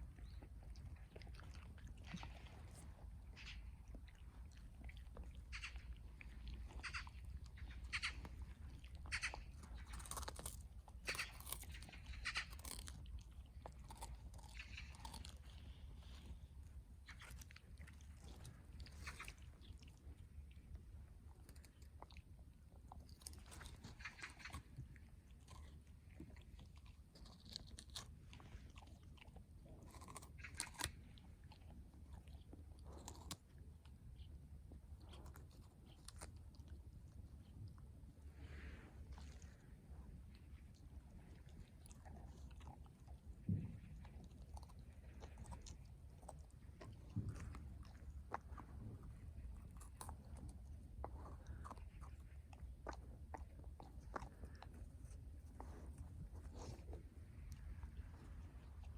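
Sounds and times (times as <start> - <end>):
dog chewing grass: 0.0 - 58.9.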